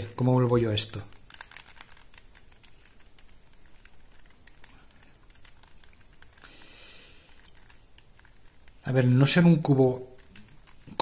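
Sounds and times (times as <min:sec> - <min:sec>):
plastic puzzle pieces clicking: 0:00.3 - 0:08.8, 0:10.1 - 0:11.0.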